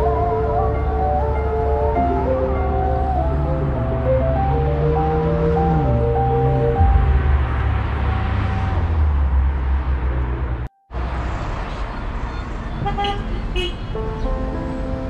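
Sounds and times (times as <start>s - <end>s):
vehicle engine rumbling: 0.0s - 13.4s
traffic noise: 0.0s - 15.0s.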